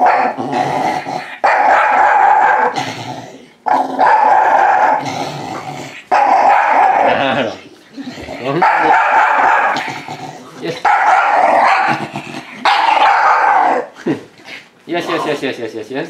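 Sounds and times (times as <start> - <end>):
dog growling and crying: 0.0 - 14.0, 15.0 - 15.4.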